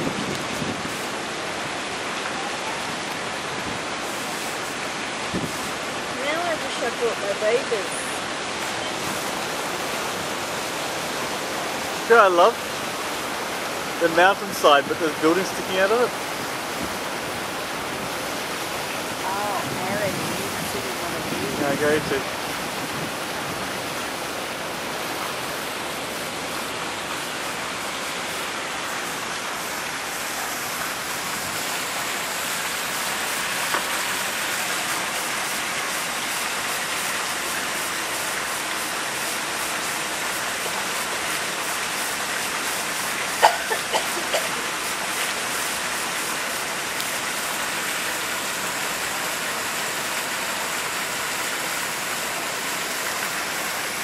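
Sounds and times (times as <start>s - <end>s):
water splashing into pool: 0.0s - 54.0s.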